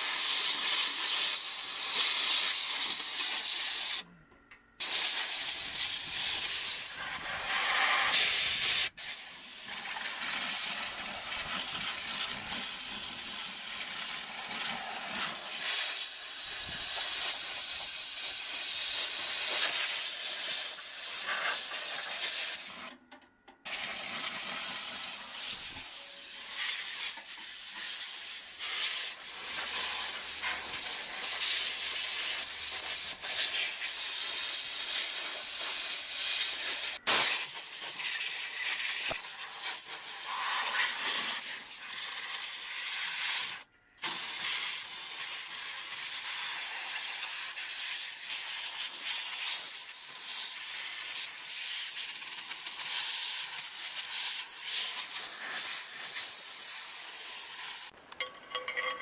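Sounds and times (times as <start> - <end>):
compressed air hissing: 0.0 - 4.0, 4.8 - 22.9, 23.7 - 57.9.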